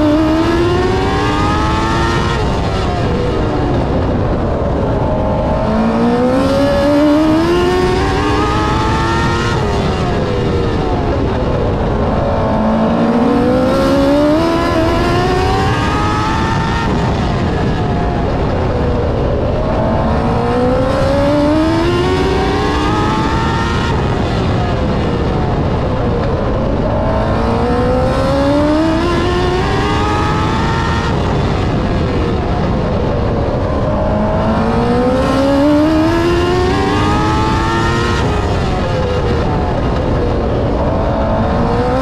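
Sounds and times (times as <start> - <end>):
race car engine revving: 0.0 - 42.0
wind noise: 0.0 - 42.0.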